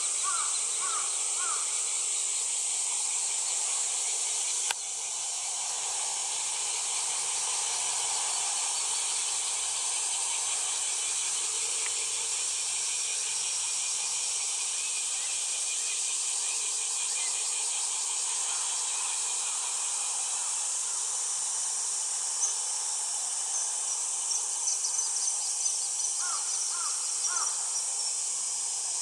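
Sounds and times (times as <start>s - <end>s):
insect chorus hissing: 0.0s - 29.0s.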